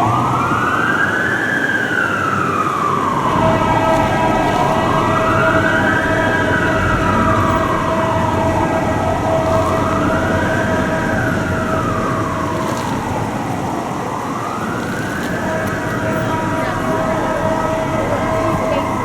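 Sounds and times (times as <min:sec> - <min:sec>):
engine and traffic rumble: 0:00.0 - 0:19.0
siren wailing: 0:00.0 - 0:19.0.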